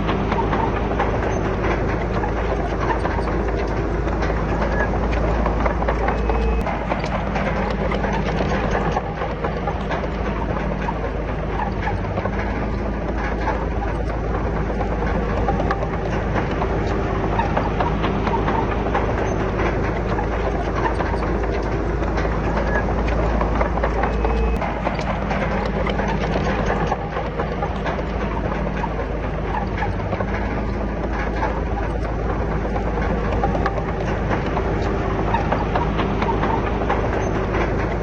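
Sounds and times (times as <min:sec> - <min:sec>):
bulldozer diesel engine running: 0:00.0 - 0:38.0
clanks and rattles of steel and rock: 0:00.0 - 0:38.0.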